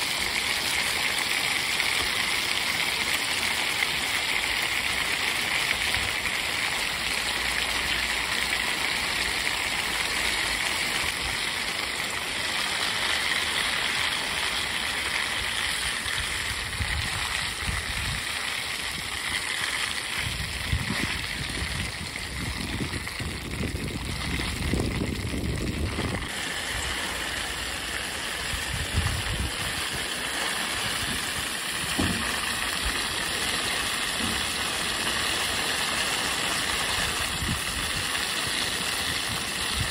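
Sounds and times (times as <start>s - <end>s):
oil sizzling and bubbling: 0.0s - 39.9s.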